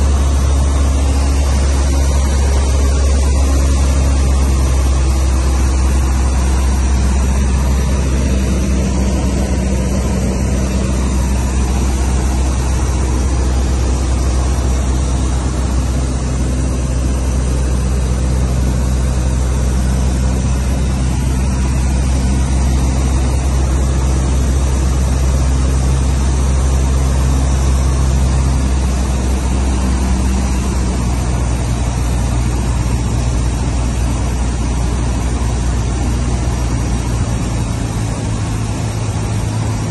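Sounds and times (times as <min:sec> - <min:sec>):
aircraft engine drone: 0:00.0 - 0:39.9
airflow noise: 0:00.0 - 0:39.9.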